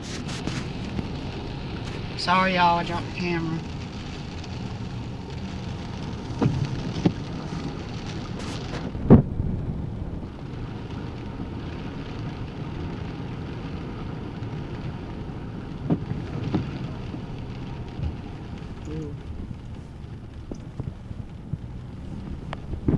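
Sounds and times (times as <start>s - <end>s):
road and tyre noise: 0.0s - 22.9s.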